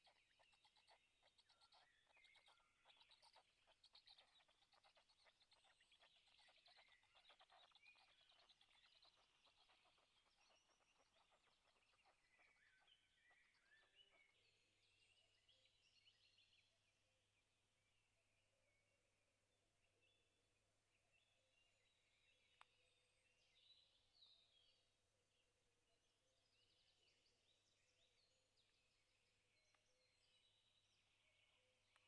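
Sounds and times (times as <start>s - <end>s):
faint birdsong: 0.0s - 32.0s.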